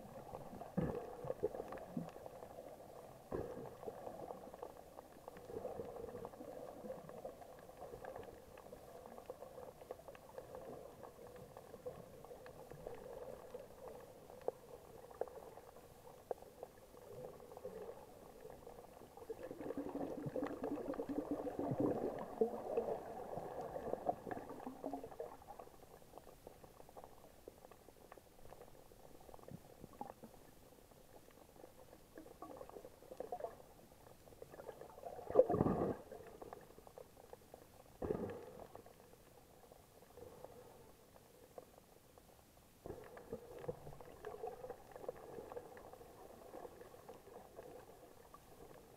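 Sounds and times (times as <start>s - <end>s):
muffled underwater water wash: 0.0s - 48.9s.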